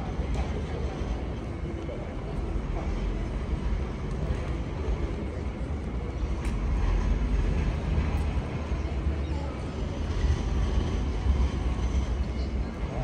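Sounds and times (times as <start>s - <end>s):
city street noise: 0.0s - 13.0s.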